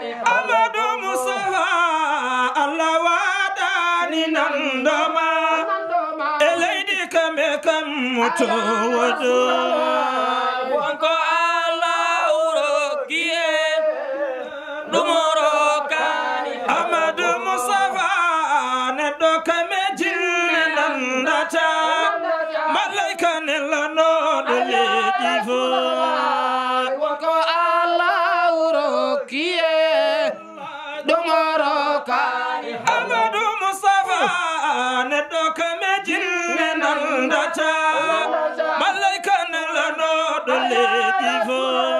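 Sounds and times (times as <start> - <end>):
men chanting devotional song: 0.0 - 41.9.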